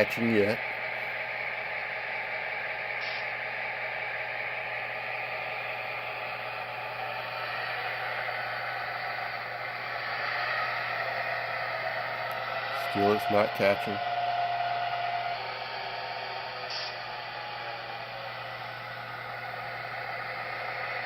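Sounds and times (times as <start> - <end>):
model locomotive mechanical hum: 0.0 - 21.0
hiss: 0.9 - 21.0.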